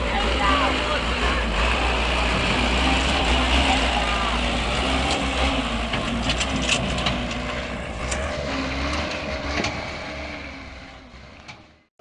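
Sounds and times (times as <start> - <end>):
truck engine rumbling: 0.0 - 11.9.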